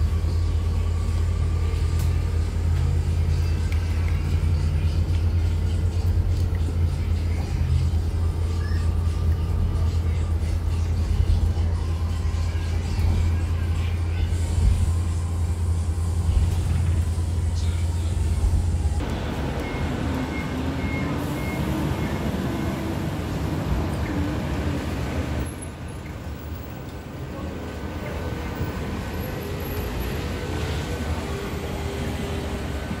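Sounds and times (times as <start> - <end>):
bus road and cabin noise: 0.0 - 33.0.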